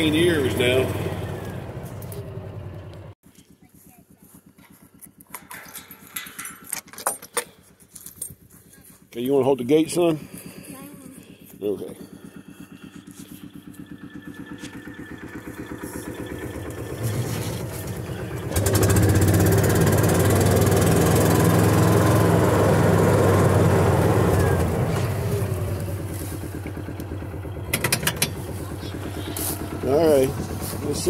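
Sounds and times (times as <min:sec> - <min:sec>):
utility vehicle engine: 0:00.0 - 0:31.0.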